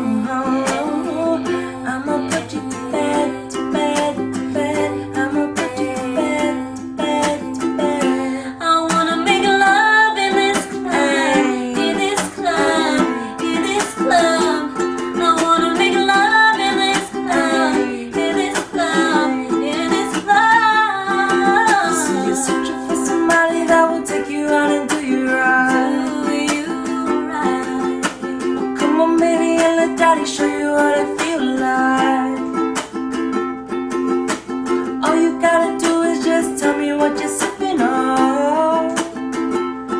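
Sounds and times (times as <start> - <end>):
ukulele strumming chords: 0.0 - 39.9.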